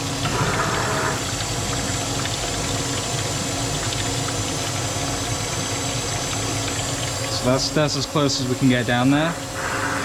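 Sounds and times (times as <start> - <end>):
machine humming: 0.0 - 10.0
pump running: 0.0 - 10.0.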